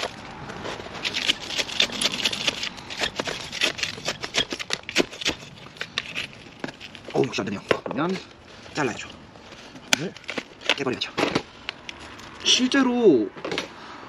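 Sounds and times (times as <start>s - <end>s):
plastic pot crackling and scraping: 0.0s - 13.7s.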